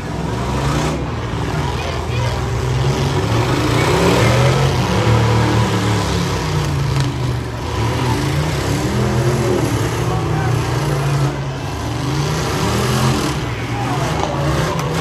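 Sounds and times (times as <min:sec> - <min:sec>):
vehicle engines revving: 0:00.0 - 0:15.0.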